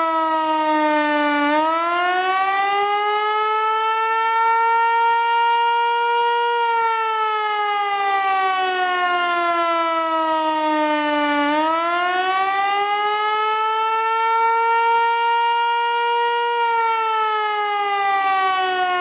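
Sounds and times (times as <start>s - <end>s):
warning siren wailing: 0.0s - 19.0s.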